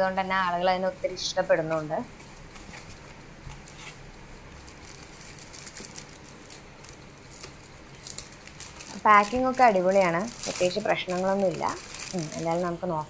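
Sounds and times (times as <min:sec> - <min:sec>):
plastic bag crinkling: 0:00.5 - 0:13.0.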